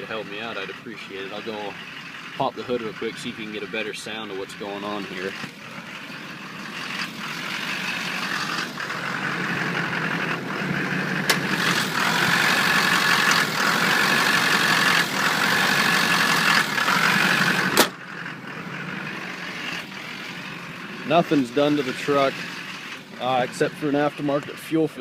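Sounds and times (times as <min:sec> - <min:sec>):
diesel engine idling roughly: 0:00.0 - 0:25.0.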